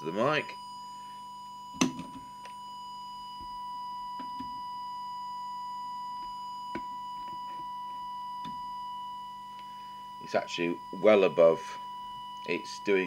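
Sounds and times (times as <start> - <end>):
steady test tone: 0.0 - 13.0.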